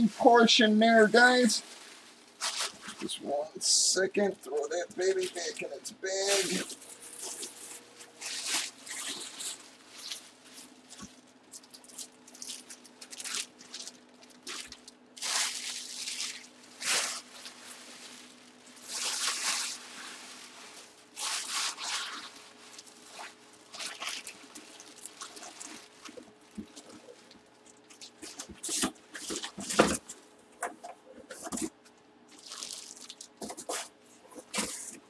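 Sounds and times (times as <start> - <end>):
plastic bags rustling: 0.0 - 35.0.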